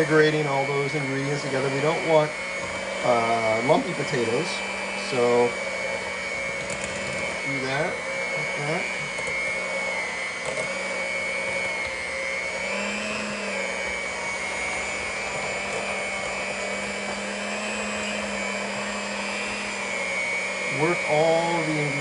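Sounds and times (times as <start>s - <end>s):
electric hand mixer whining: 0.0s - 22.0s.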